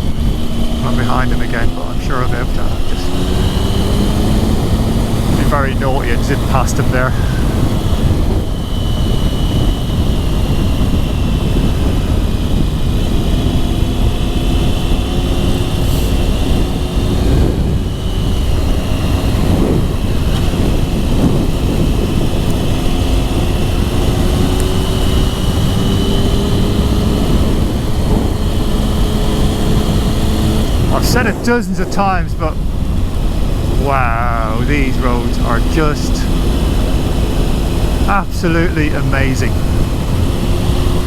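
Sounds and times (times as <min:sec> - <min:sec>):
motorcycle engine: 0:00.0 - 0:41.0
wind rush: 0:00.0 - 0:41.0.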